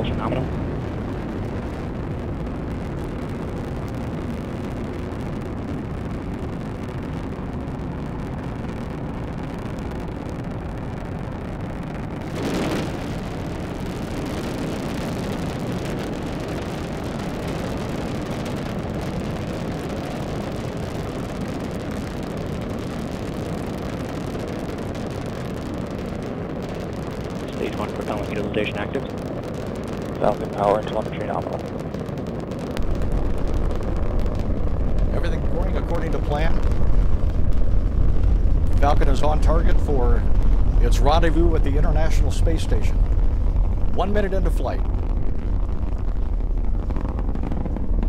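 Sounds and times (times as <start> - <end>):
deep rocket rumble: 0.0 - 48.0.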